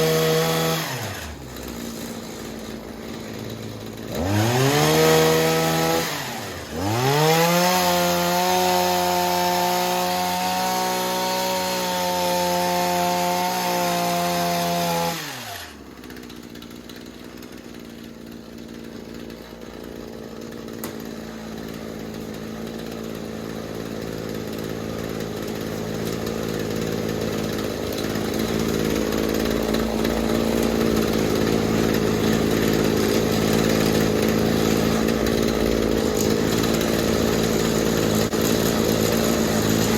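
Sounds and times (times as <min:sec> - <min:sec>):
hedge trimmer engine revving: 0:00.0 - 0:39.9.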